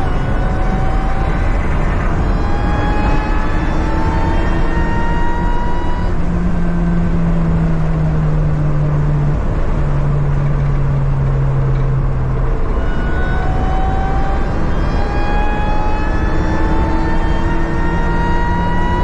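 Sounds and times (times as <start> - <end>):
car engine accelerating: 0.0 - 19.0
wind and road noise: 0.0 - 19.0.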